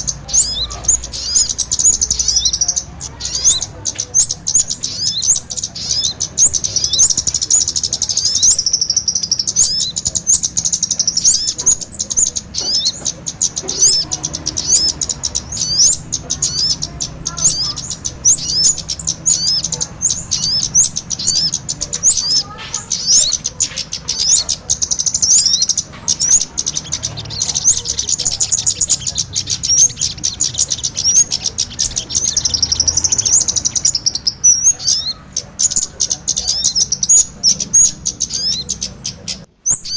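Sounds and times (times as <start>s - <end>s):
rapid high-pitched bird chirps: 0.0s - 39.9s.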